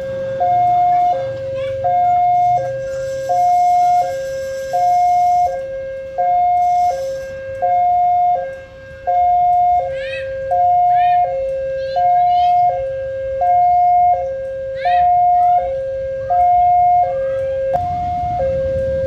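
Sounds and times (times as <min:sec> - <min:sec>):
two-tone crossing alarm: 0:00.0 - 0:19.0.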